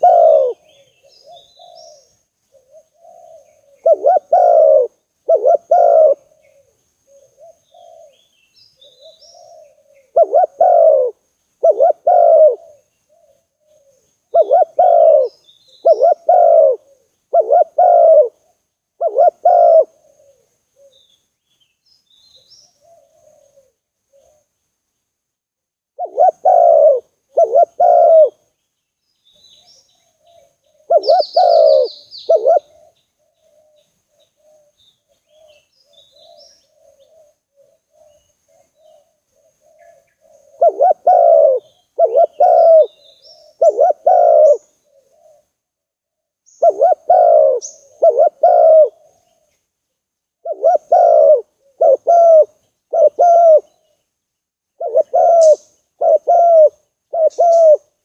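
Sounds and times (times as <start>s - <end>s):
dove cooing: 0.0s - 21.1s, 22.4s - 24.5s, 26.0s - 28.5s, 29.4s - 45.6s, 46.5s - 49.6s, 50.4s - 54.0s, 54.8s - 58.0s
faint dove cooing: 0.0s - 21.2s, 22.4s - 24.6s, 26.0s - 28.5s, 29.4s - 49.6s, 50.4s - 54.0s, 54.8s - 58.0s
small birds chirping: 0.0s - 25.1s, 26.0s - 45.7s, 46.4s - 58.0s.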